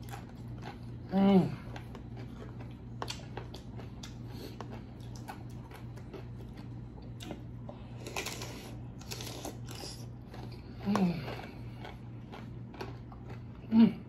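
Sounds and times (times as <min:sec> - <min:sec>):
chewing with wet clicks and crunches: 0:00.0 - 0:14.0
steady low hum: 0:00.0 - 0:14.0.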